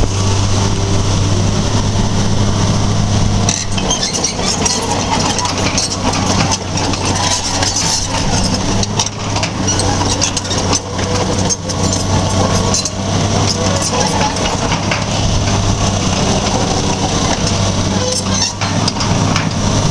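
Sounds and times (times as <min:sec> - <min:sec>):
excavator diesel engine idling: 0:00.0 - 0:19.9.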